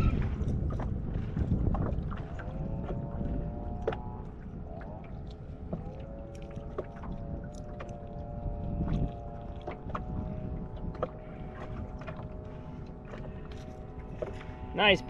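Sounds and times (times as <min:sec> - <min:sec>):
low rumble: 0:00.0 - 0:15.0
water against a boat: 0:00.0 - 0:15.0
wind: 0:00.0 - 0:15.0.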